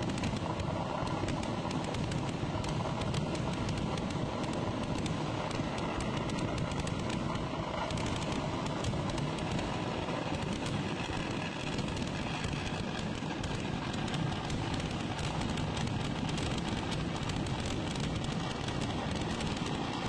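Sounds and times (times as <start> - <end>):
firecrackers barrage: 0.0 - 20.0.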